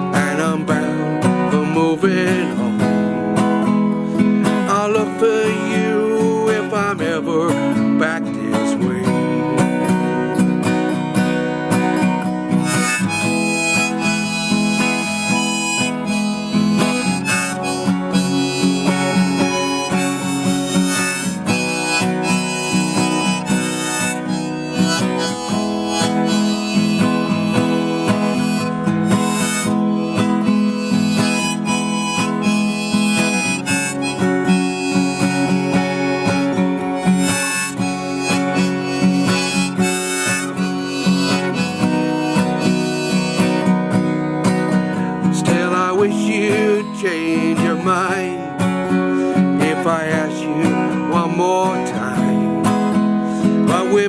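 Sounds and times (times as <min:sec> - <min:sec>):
harmonica playing melody: 0:00.0 - 0:07.5, 0:08.3 - 0:54.0
strummed acoustic guitar: 0:00.0 - 0:54.0.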